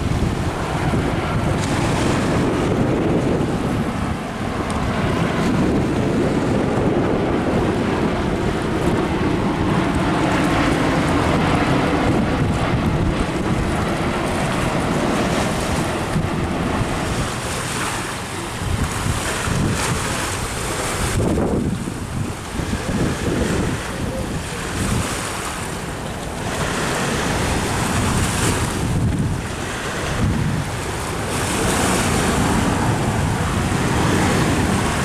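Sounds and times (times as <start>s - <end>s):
wind roaring over microphone: 0.0s - 35.0s.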